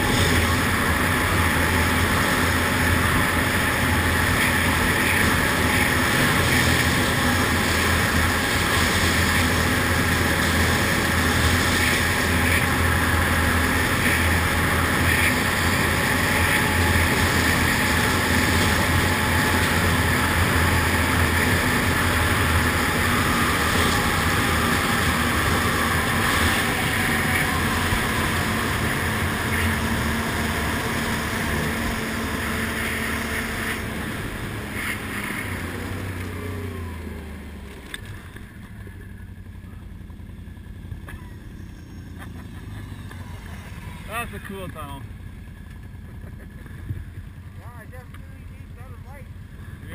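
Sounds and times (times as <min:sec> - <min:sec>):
quad engine running in tunnel: 0:00.0 - 0:49.9.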